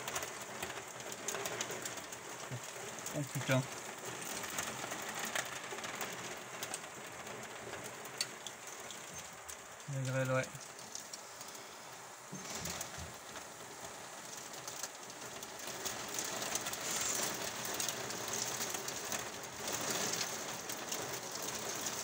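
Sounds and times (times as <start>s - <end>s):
hail and rain drumming on glass: 0.0s - 22.0s.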